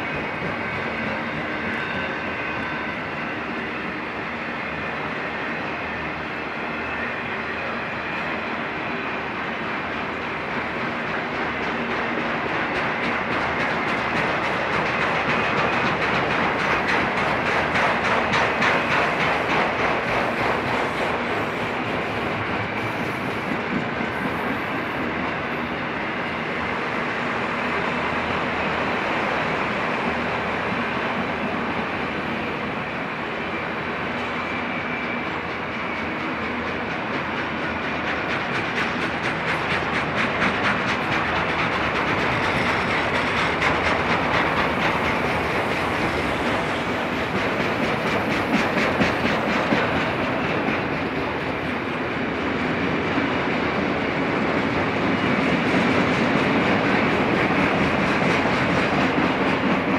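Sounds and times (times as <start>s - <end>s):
clickety-clack over rail joints: 0.0s - 59.9s
steel wheels rumbling on rail: 0.0s - 59.9s.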